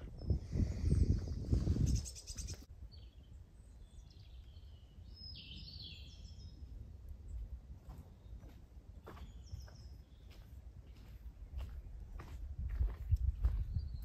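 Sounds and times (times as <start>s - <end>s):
birds chirping: 0.0s - 12.3s
low wind rumble: 0.0s - 14.0s.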